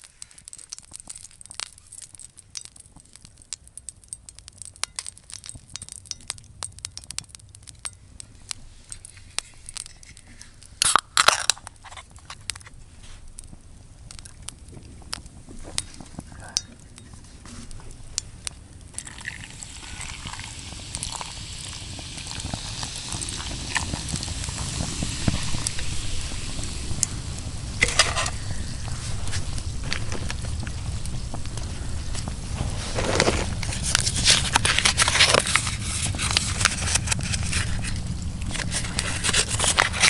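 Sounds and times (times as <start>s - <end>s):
fire hissing: 0.0s - 40.0s
wood fire crackling and popping: 0.0s - 40.0s.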